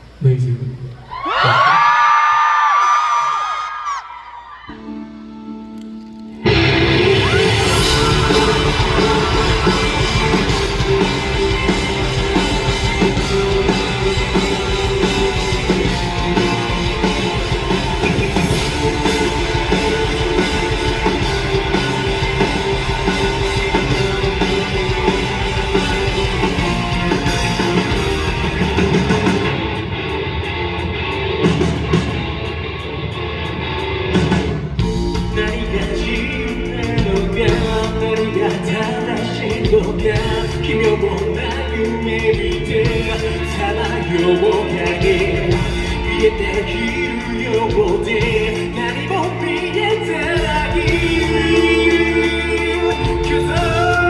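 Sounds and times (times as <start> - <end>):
live rock band playing: 4.7 - 54.0.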